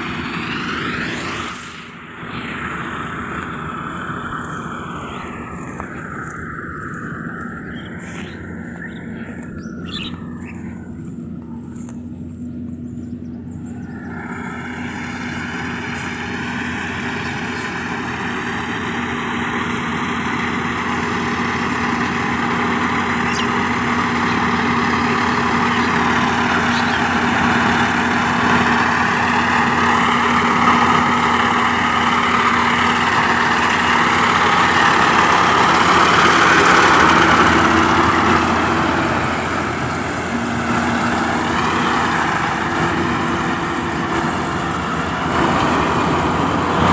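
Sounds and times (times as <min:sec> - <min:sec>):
diesel engine hum: 0:00.0 - 0:46.9
harvester machinery whirring: 0:00.0 - 0:46.9.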